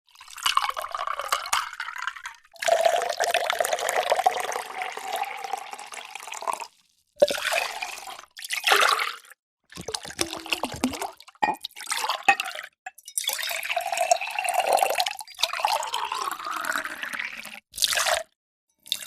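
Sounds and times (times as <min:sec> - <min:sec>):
water pouring into container: 0:00.1 - 0:19.0.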